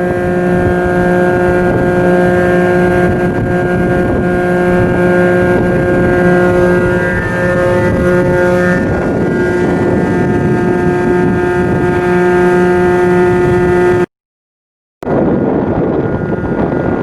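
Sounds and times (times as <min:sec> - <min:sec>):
ship machinery droning: 0:00.0 - 0:14.1.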